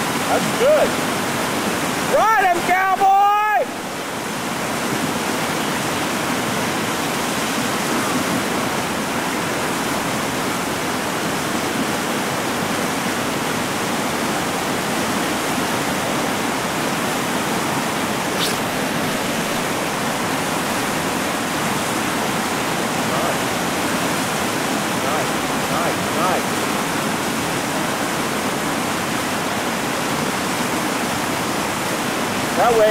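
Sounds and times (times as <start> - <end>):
river rapids rushing: 0.0 - 32.9.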